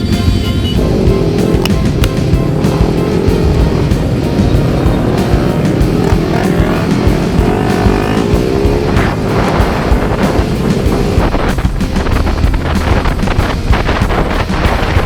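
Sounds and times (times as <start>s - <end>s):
background music: 0.0s - 15.0s
motorcycle engines revving: 0.0s - 15.0s.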